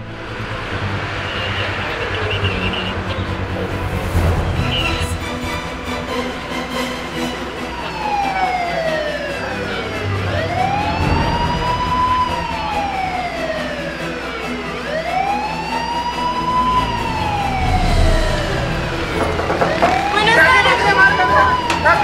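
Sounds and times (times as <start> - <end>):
wailing siren: 0.0 - 22.0.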